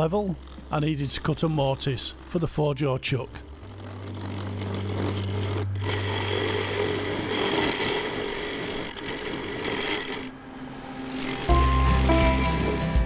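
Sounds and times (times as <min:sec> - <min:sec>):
turning tool scraping wood: 0:00.0 - 0:10.4, 0:11.0 - 0:13.0
wood lathe humming: 0:00.0 - 0:13.0.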